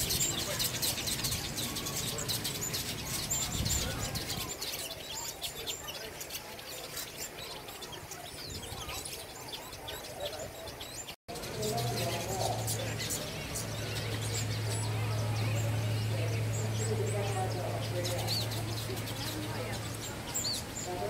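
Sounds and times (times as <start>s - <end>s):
many small birds chirping: 0.0s - 21.0s.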